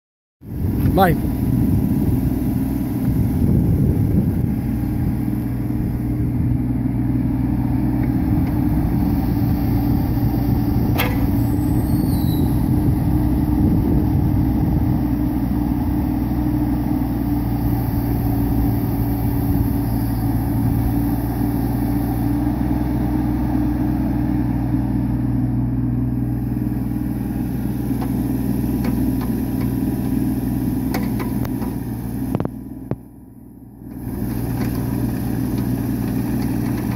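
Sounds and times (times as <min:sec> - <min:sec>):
diesel excavator engine running: 0:00.4 - 0:36.9.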